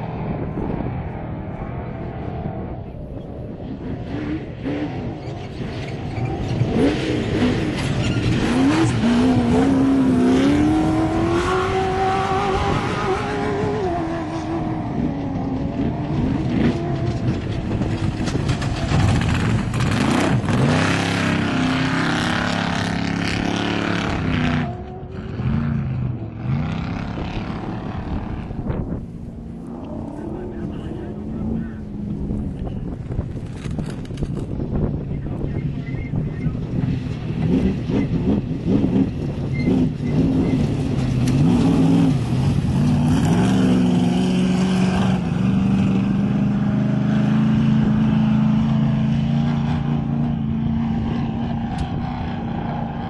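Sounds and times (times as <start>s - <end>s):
race vehicle engine passing at speed: 0.0s - 53.0s.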